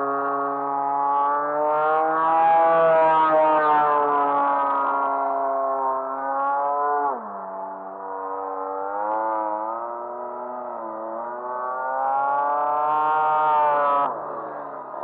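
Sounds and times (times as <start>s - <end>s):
model plane motor and propeller: 0.0s - 15.0s.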